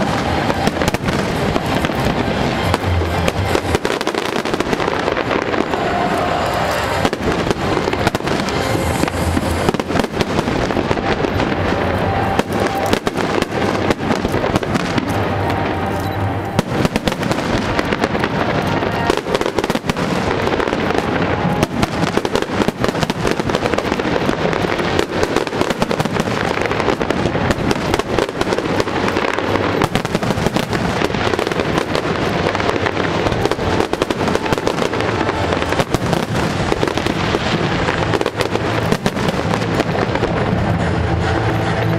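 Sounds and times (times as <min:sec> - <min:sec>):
fireworks bangs and crackles: 0:00.0 - 0:41.9
music playing: 0:00.0 - 0:41.9.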